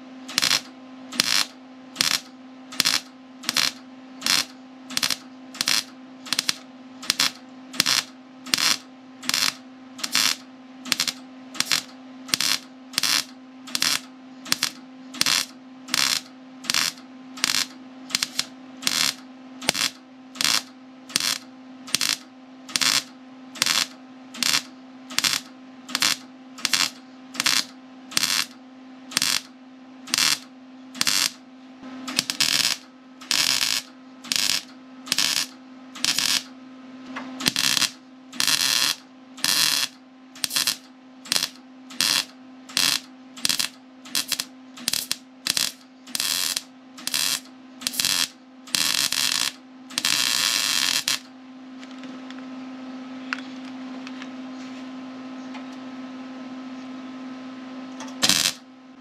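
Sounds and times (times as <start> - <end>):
steady hum: 0.0 - 59.0
welding arc crackle: 0.3 - 29.5, 30.1 - 31.4, 32.2 - 36.5, 37.4 - 51.3, 58.2 - 58.6.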